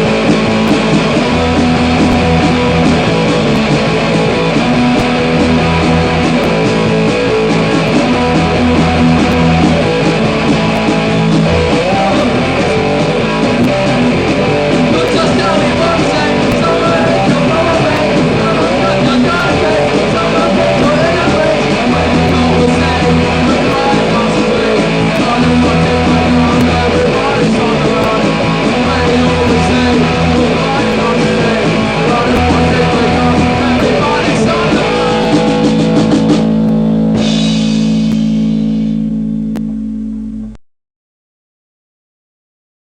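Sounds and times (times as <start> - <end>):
person singing: 0.0 - 37.6
punk rock band playing: 0.0 - 40.6.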